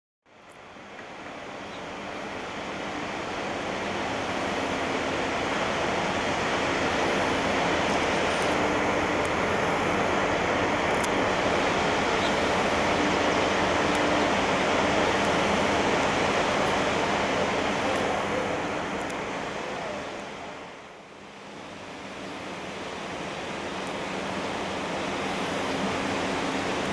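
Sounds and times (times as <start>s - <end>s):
rushing water: 0.3s - 26.9s.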